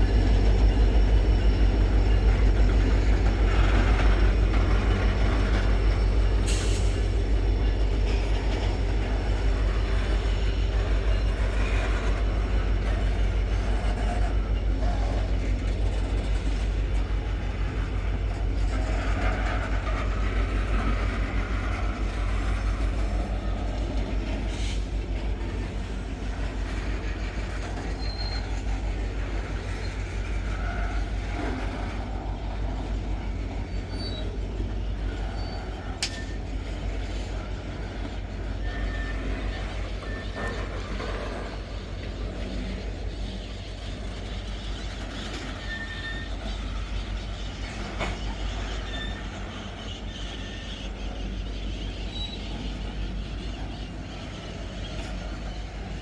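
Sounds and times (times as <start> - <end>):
freight train rumbling past: 0.0 - 56.0
high wheel squeaks: 0.0 - 56.0.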